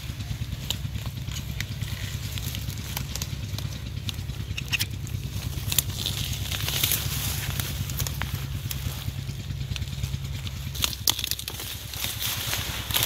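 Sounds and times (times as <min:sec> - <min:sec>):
leaves and stems crackling: 0:00.0 - 0:13.0
low rumble: 0:00.0 - 0:13.0
plants rustling: 0:00.0 - 0:13.0.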